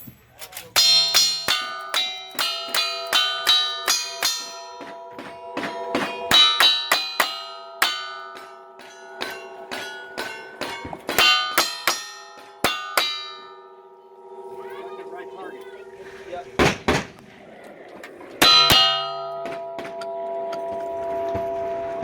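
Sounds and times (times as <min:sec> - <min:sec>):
steel targets clanging: 0:00.0 - 0:17.2, 0:18.2 - 0:21.0.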